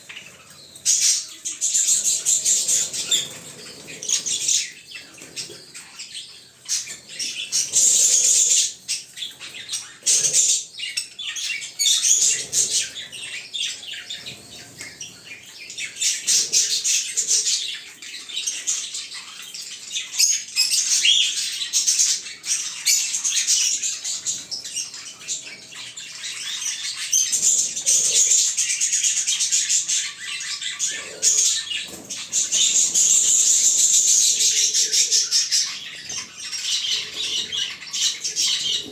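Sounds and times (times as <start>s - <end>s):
lovebirds chattering and squawking: 0.0s - 38.9s.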